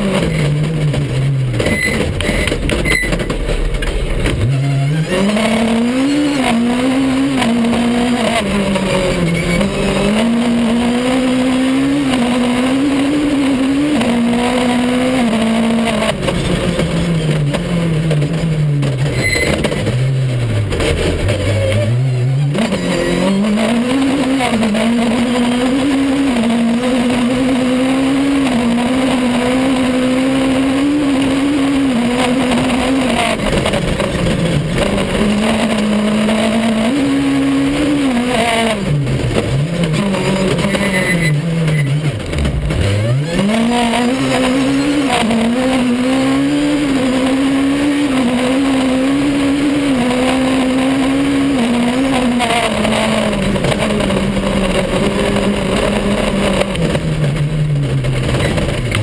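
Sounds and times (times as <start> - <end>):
rally car engine revving high: 0.0 - 59.0
road noise: 0.0 - 59.0.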